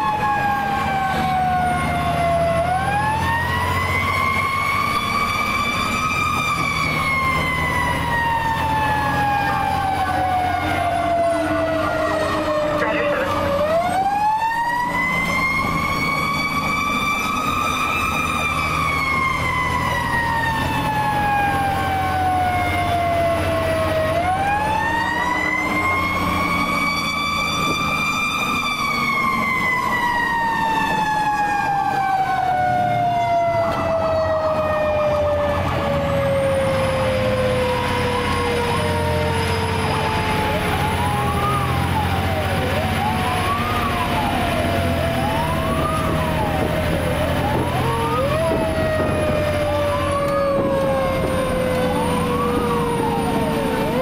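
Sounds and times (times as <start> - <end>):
electronic siren sweeping: 0.0 - 54.0
truck engine running: 0.0 - 54.0.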